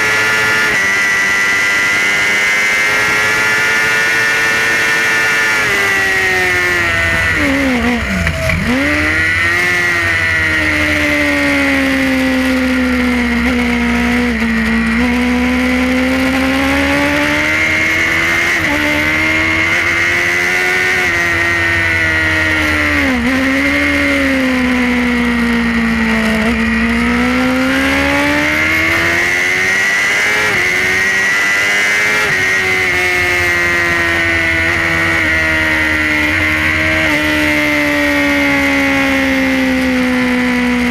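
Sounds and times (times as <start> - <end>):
superbike engine at racing speed: 0.0 - 40.9.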